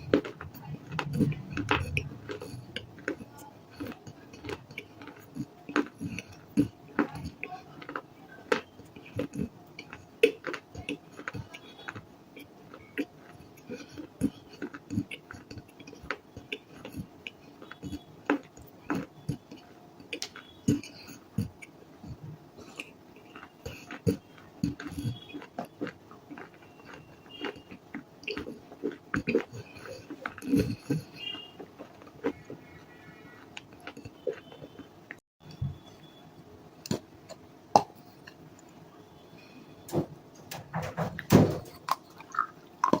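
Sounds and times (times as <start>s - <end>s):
crunchy chewing: 0.0s - 36.2s, 36.8s - 43.0s.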